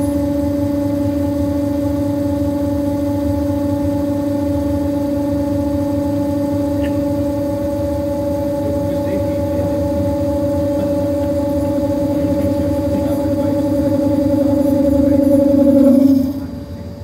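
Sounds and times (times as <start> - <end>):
milling machine spindle whine: 0.0 - 17.0.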